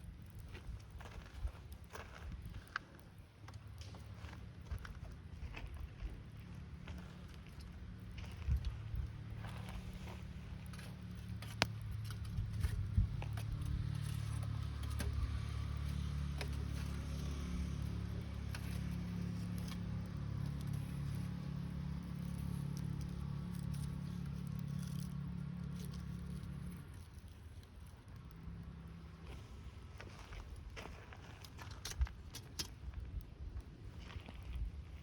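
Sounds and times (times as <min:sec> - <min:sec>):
campfire crackling and popping: 0:00.0 - 0:35.0
low droning hum: 0:03.8 - 0:35.0.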